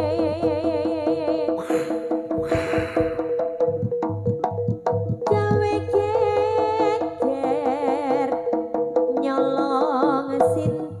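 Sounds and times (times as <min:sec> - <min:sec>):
hand-drum strokes: 0:00.0 - 0:11.0.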